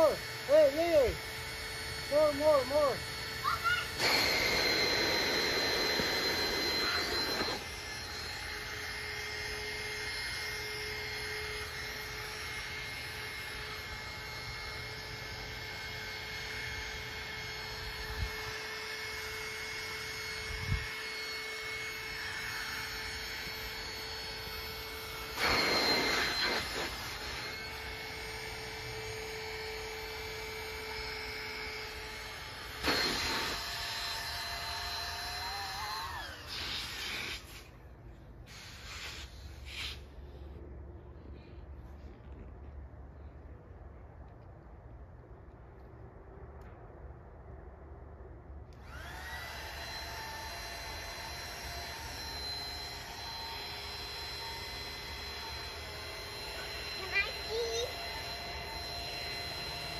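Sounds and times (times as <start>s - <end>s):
small electric motor whining: 0.0s - 43.3s, 48.6s - 59.9s.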